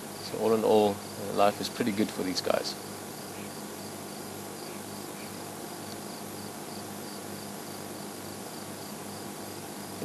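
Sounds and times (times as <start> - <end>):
crickets chirping: 0.0 - 10.0
low steady hum: 0.0 - 10.0.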